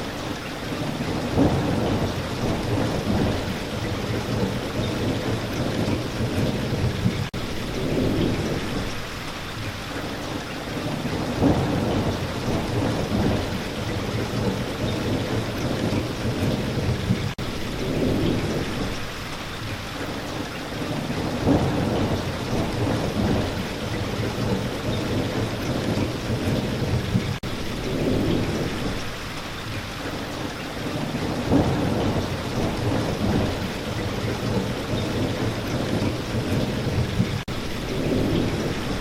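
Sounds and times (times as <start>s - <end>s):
steady rain falling: 0.0s - 39.0s
low rolling thunder: 0.7s - 9.7s, 10.7s - 19.2s, 20.8s - 29.3s, 30.4s - 39.0s.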